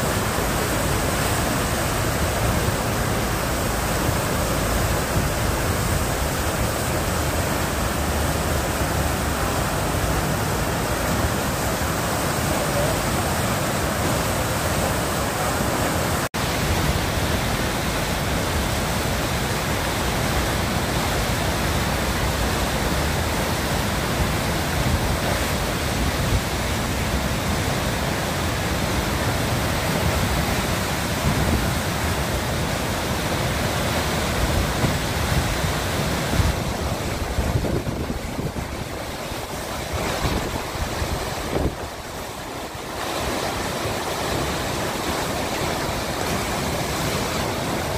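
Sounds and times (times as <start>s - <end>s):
fast river water rushing: 0.0s - 47.9s.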